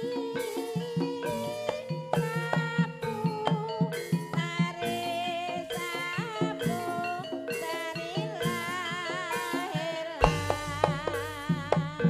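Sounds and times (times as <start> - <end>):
drum strokes: 0.0 - 12.0
metallophone notes: 0.0 - 12.0
wavering melody line: 0.0 - 12.0.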